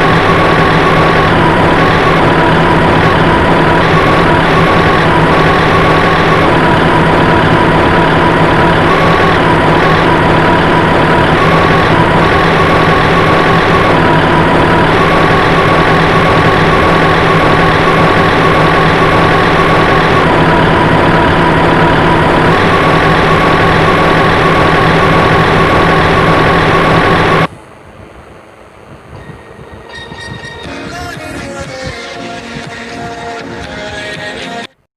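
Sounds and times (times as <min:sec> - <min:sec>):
heavy machine running: 0:00.0 - 0:34.8.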